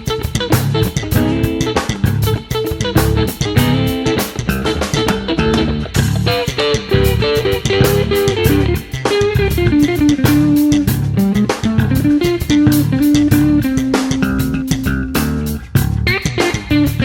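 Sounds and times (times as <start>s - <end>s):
guitar-led instrumental music: 0.0s - 17.0s.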